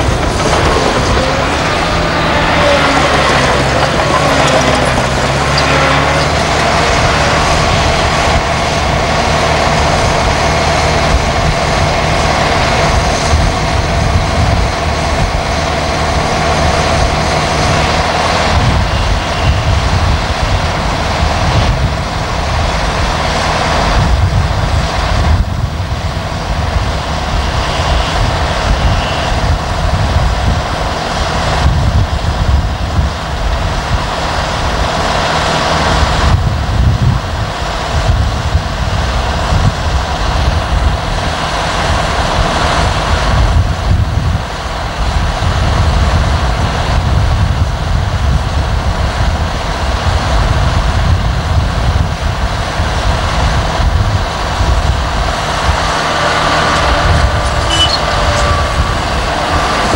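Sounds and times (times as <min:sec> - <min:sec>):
dump truck driving past: 0:00.0 - 0:59.9
heavy diesel engines drone: 0:00.0 - 0:59.9.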